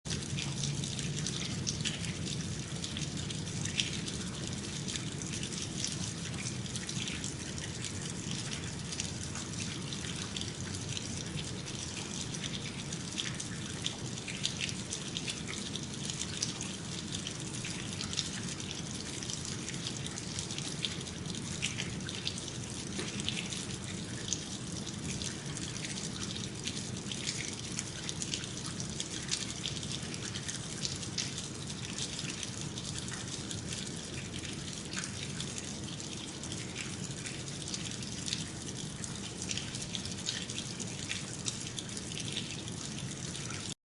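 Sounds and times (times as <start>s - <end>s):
meltwater dripping: 0.0s - 43.8s
running water: 0.0s - 43.8s.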